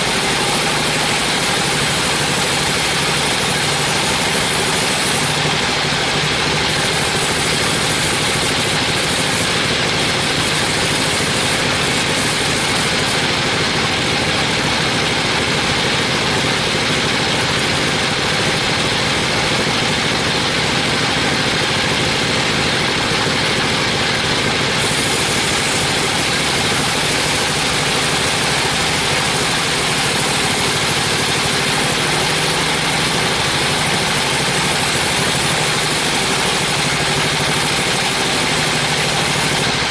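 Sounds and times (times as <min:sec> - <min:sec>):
band sawmill cutting wood: 0:00.0 - 0:39.9.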